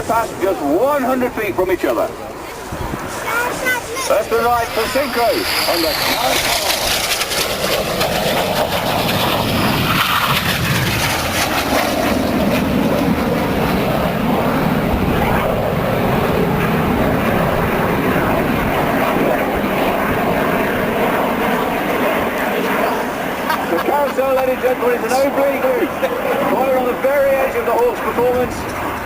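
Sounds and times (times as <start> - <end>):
jets passing with rushing roar: 0.0 - 29.0.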